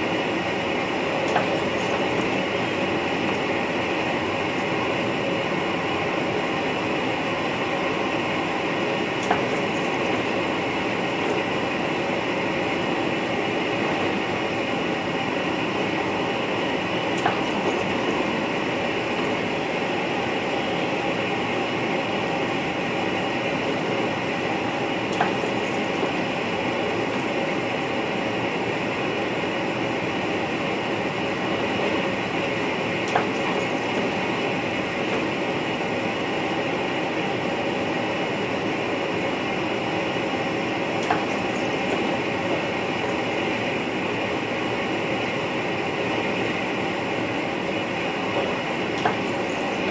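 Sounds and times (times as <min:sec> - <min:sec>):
train running and rail noise: 0:00.0 - 0:49.9.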